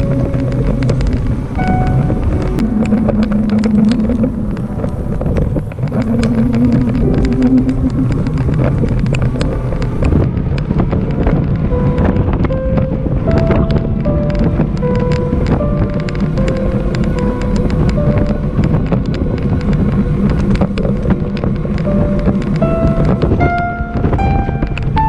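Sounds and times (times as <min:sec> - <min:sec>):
low traffic rumble: 0:00.0 - 0:25.0.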